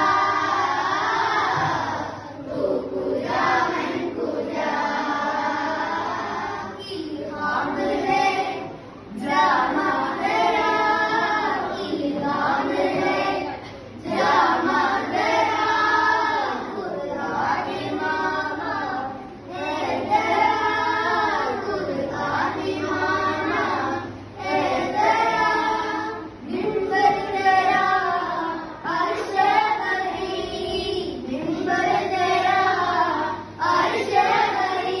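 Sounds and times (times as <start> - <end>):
children singing together: 0.0 - 35.0.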